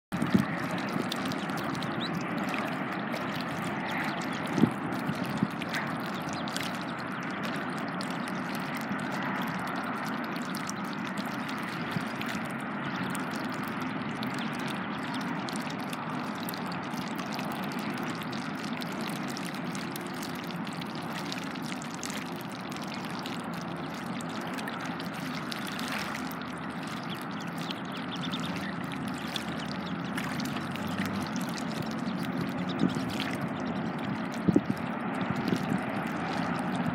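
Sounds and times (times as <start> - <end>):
ducklings dabbling: 0.1 - 36.9
shallow water lapping: 0.1 - 36.9.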